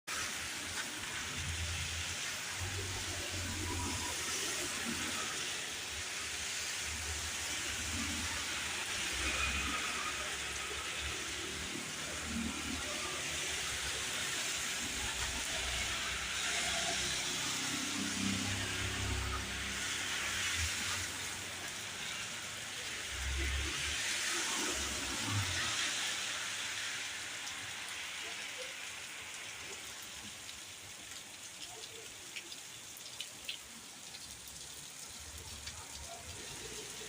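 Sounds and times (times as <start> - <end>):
steady rain: 0.1 - 37.0.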